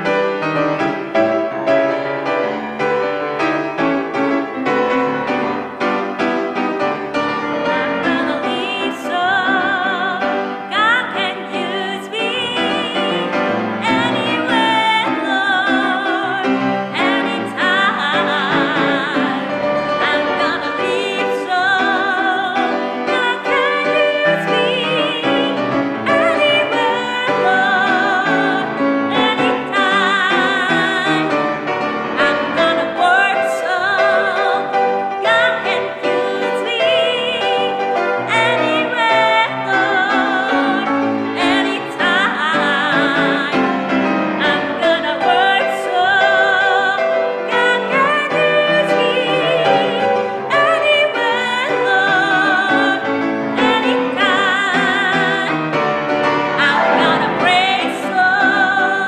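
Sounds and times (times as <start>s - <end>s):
classical singer with vibrato: 0.0s - 59.0s
piano accompaniment: 0.0s - 59.0s.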